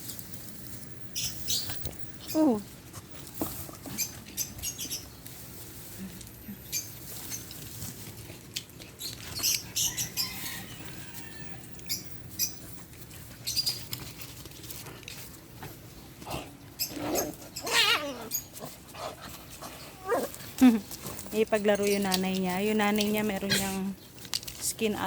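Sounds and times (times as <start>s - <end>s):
dogs scuffling and pawing: 0.0s - 25.0s.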